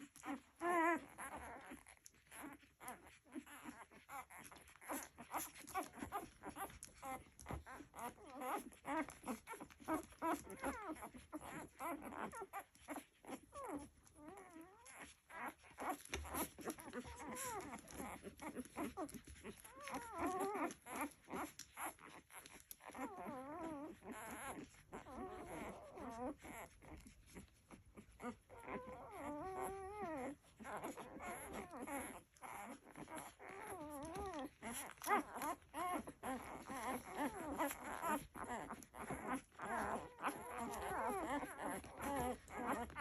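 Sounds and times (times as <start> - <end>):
puppies whimpering and squeaking: 0.0 - 43.0.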